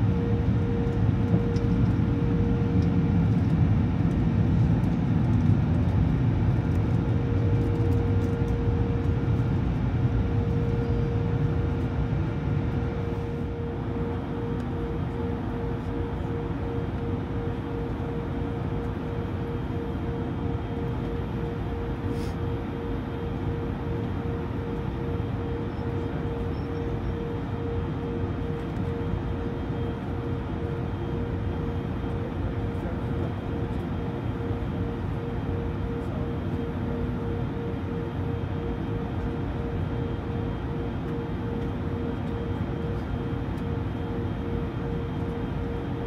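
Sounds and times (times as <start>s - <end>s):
jet engines low rumble: 0.0s - 46.0s
pulsing turbine whine: 0.0s - 46.0s.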